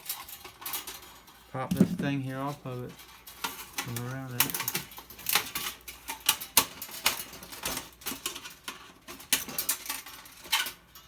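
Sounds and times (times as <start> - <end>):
sheet metal clicking and rattling: 0.0 - 11.0.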